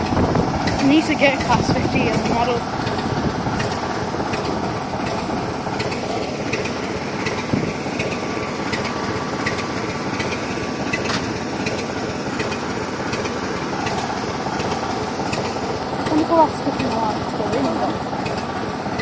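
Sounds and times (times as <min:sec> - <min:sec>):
diesel locomotive engine idling: 0:00.0 - 0:19.0.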